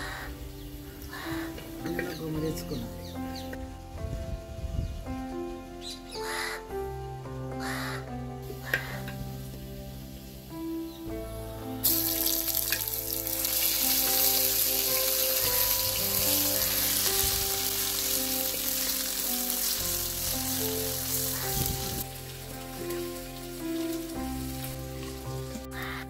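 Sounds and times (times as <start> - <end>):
hot oil sizzling in a pot: 0.0 - 4.0, 7.6 - 26.0.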